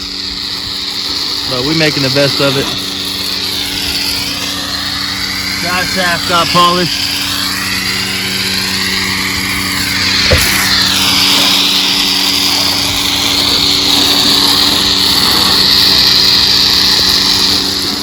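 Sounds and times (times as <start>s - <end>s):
loud hiss: 0.0s - 18.0s
small motor running: 0.0s - 18.0s.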